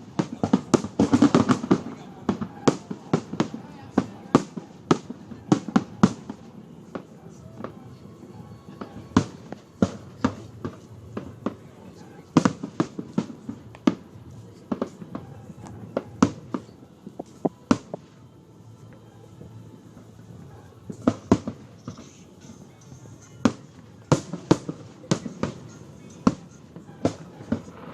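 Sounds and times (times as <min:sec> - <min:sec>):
fireworks bangs: 0:00.0 - 0:18.4, 0:19.3 - 0:27.9.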